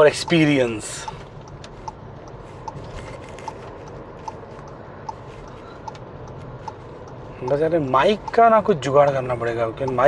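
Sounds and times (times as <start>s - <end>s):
tyres and wind rushing: 0.0s - 10.0s.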